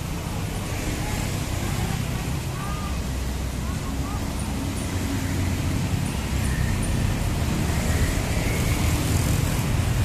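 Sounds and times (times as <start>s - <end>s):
motorcycles and cars passing: 0.0s - 10.0s.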